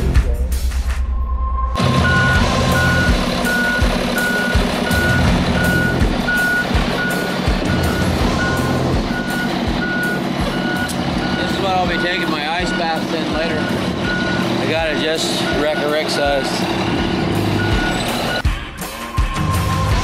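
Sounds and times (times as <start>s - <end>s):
music: 0.0s - 20.0s
truck engine running: 1.8s - 18.6s
truck reversing alarm beeping: 1.8s - 20.0s.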